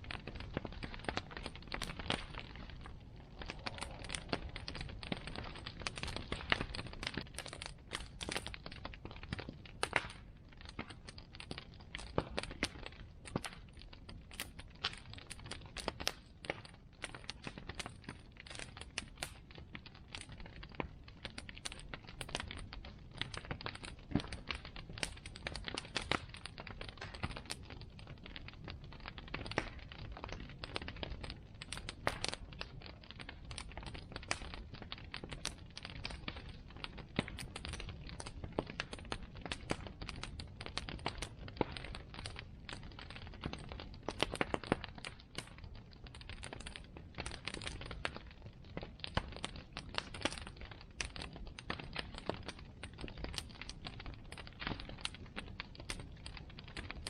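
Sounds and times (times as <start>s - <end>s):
bonfire flame rumble: 0.0s - 57.0s
burning wood crackling and popping: 0.0s - 57.0s.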